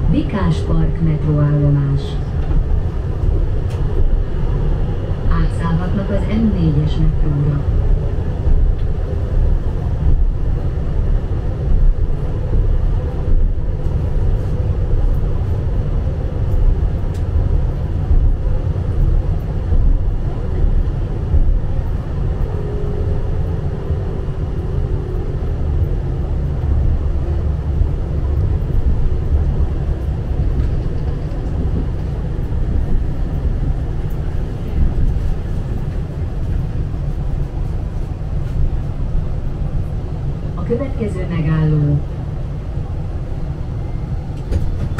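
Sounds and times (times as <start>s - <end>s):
tram wheels rumbling on rails: 0.0s - 44.9s.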